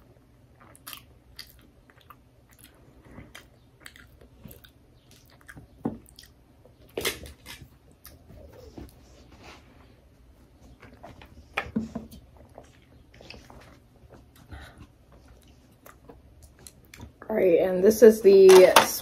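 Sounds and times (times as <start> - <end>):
person chewing food: 0.0 - 9.0, 10.0 - 17.2.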